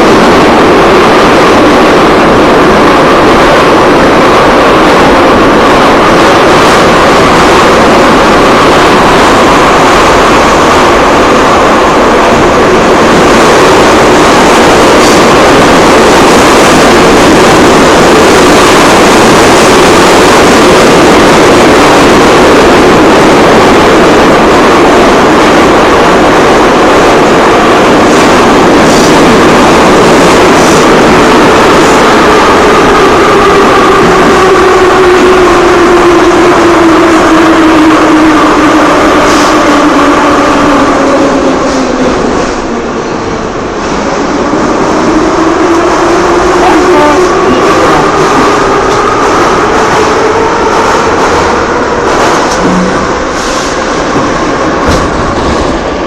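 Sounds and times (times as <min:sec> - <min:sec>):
metro train running: 0:00.0 - 0:56.0
train hum: 0:00.0 - 0:56.0.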